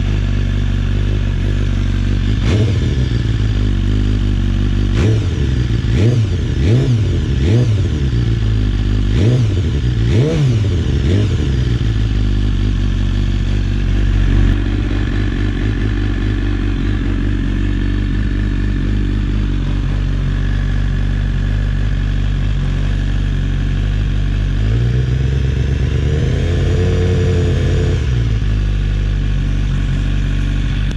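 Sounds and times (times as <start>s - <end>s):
motorcycle engine idling: 0.0s - 30.9s
motorcycle engine revving: 0.0s - 30.9s.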